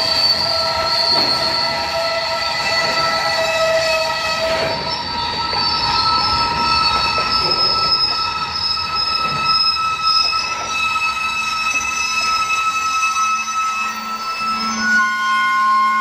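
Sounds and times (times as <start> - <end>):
wheels rumbling on rails: 0.0 - 13.0
train wheels squealing: 0.0 - 16.0.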